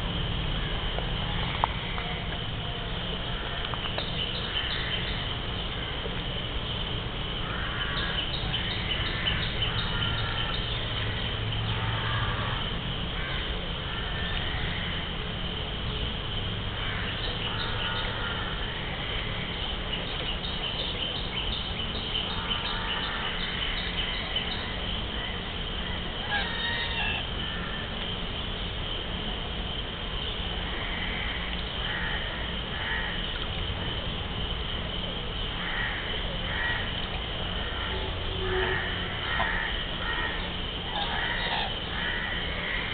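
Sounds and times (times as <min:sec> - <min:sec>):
birds calling: 0:00.0 - 0:42.9.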